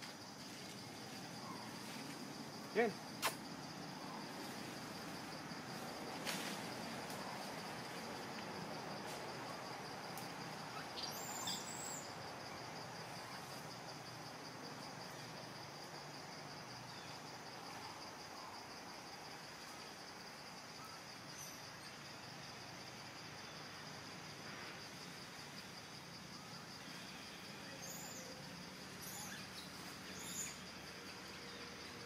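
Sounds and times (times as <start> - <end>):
insects buzzing: 0.0 - 32.0
soft outdoor hiss: 0.0 - 32.0.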